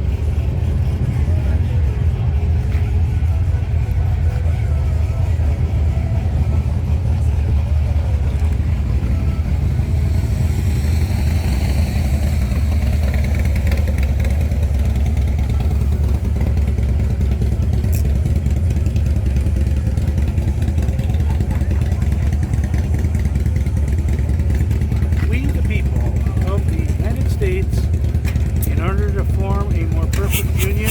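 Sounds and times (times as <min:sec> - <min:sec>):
vehicle engine rumble: 0:00.0 - 0:30.9.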